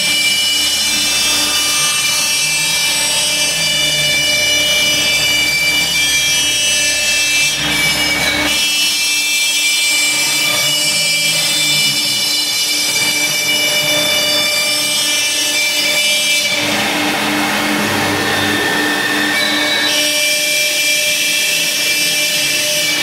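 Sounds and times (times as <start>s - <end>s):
router bit cutting wood: 0.0s - 23.0s
router spindle high whine: 0.0s - 23.0s.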